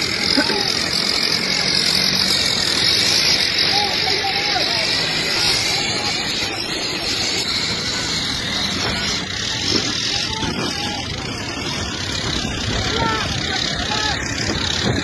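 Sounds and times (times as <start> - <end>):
steady rush of noise: 0.0 - 15.0
tractor engine running: 0.0 - 15.0.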